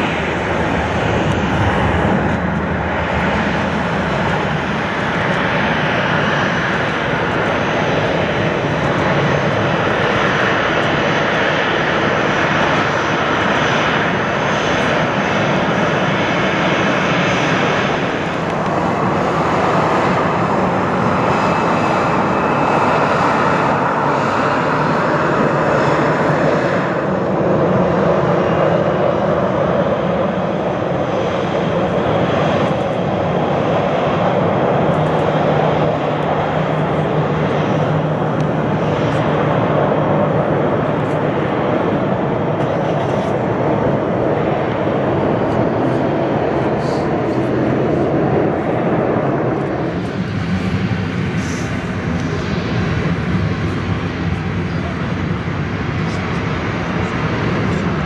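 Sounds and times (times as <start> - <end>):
aircraft engines running: 0.0 - 58.0.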